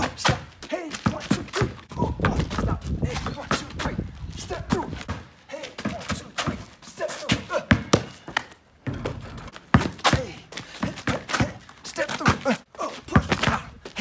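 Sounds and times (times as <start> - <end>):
basketball bouncing on asphalt: 0.0 - 14.0.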